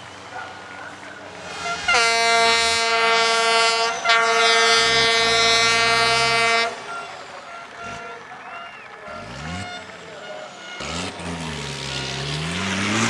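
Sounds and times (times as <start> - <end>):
engine running: 0.0 - 13.0
air horn blasts: 1.3 - 13.0.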